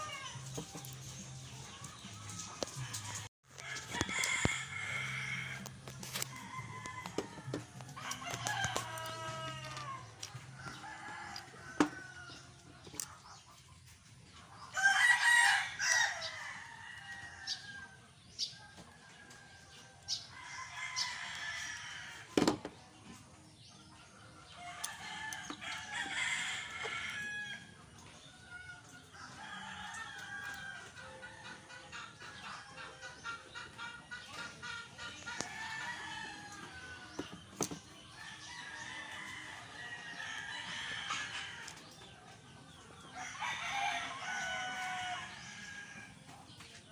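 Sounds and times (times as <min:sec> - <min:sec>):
roosters crowing: 0:00.0 - 0:13.1, 0:14.6 - 0:23.0, 0:24.2 - 0:46.5.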